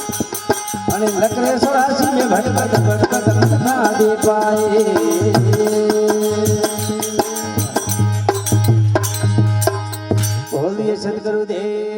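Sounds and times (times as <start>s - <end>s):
sharp drum strokes: 0.0s - 10.6s.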